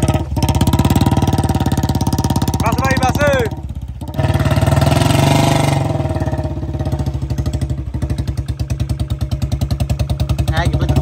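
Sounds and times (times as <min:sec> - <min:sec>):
motorcycle engine revving and thumping: 0:00.0 - 0:11.0.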